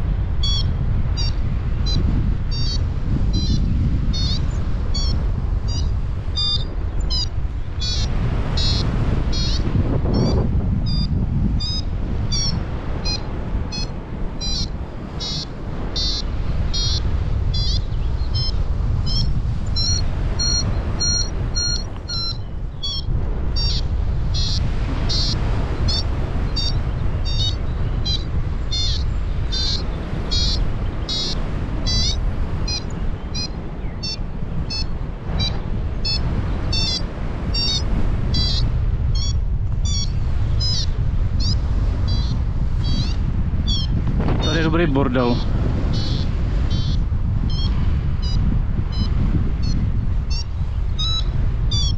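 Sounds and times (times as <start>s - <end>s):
wind on microphone: 0.0s - 51.9s
variometer beeping chirps: 0.4s - 44.6s, 45.2s - 51.9s.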